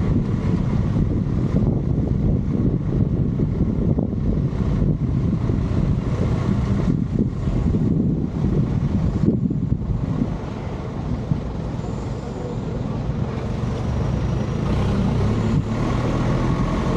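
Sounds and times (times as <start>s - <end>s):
vehicle rumbling: 0.0s - 16.9s.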